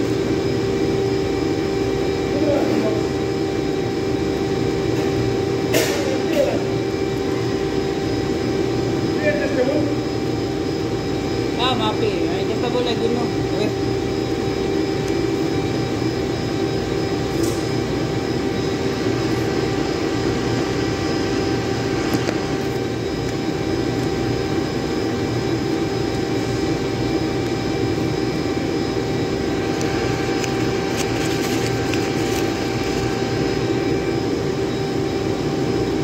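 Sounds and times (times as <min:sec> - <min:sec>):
machinery drone: 0:00.0 - 0:36.0.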